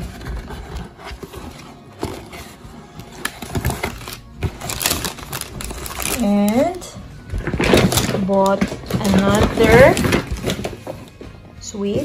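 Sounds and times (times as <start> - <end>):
tissue paper rustling: 0.0 - 11.2.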